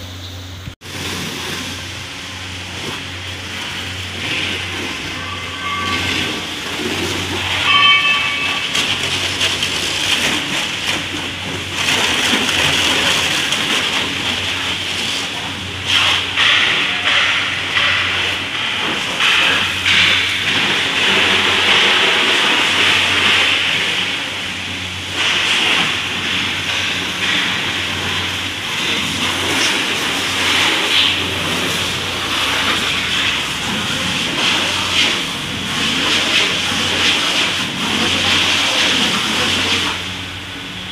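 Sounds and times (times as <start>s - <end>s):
low steady hum: 0.0s - 40.9s
high-pressure water jet hissing: 0.8s - 40.5s.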